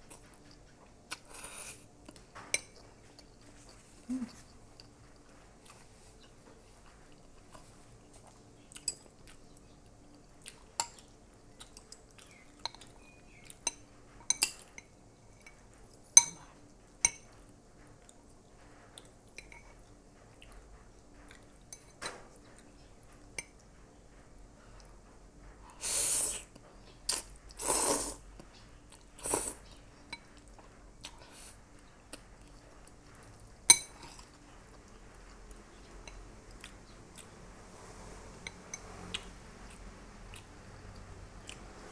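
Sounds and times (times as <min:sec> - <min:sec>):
quiet chewing: 0:00.0 - 0:41.9.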